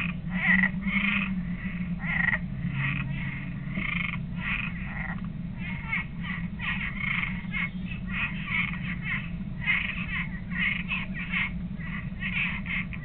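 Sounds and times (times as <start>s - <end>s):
steady low hum: 0.0s - 13.0s
treefrog croaking: 0.0s - 13.0s.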